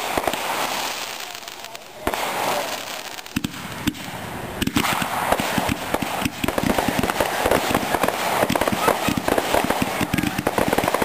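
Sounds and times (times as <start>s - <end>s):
firework bangs: 0.0s - 11.0s
firework pops and crackles: 0.0s - 11.0s.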